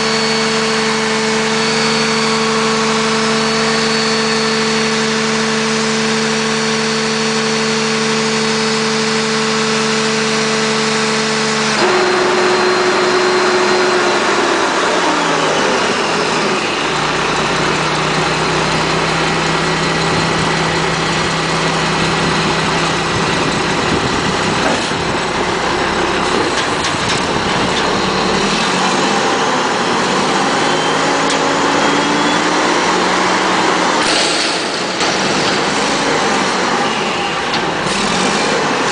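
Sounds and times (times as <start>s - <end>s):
garbage truck diesel engine: 0.0s - 38.9s.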